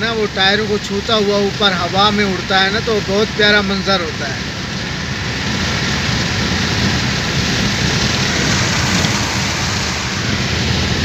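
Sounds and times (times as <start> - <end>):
low road rumble: 0.0 - 11.0
tyres hissing on wet road: 0.0 - 11.0
wind rushing through car window: 0.3 - 11.0.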